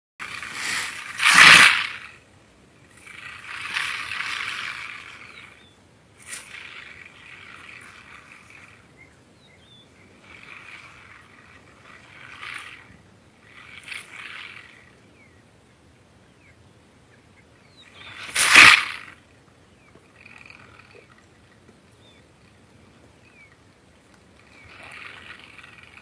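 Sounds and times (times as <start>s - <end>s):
porcupine quills rattling: 0.2s - 2.2s, 2.8s - 15.4s, 17.2s - 26.0s.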